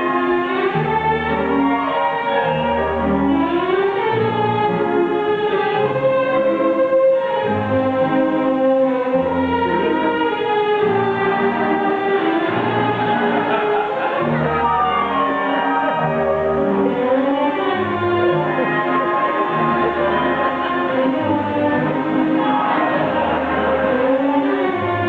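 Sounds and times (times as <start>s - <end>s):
slow instrumental music: 0.0s - 25.0s.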